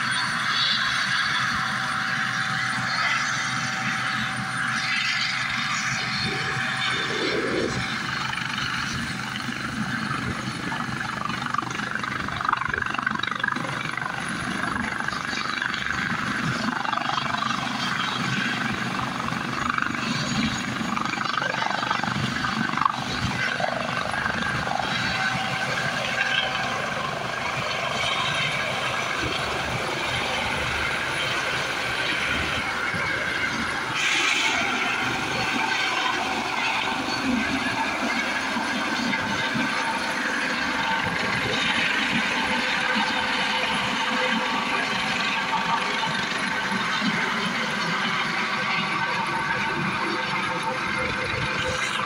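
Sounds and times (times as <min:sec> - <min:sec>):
helicopter turbine whine and rotor: 0:00.0 - 0:52.0.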